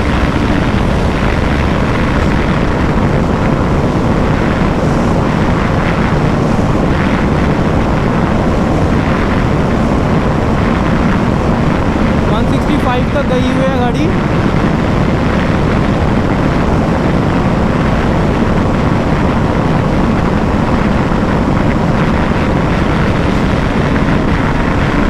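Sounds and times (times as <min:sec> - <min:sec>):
heavy wind rush: 0:00.0 - 0:25.0
motorcycle engine at high speed: 0:00.0 - 0:25.0.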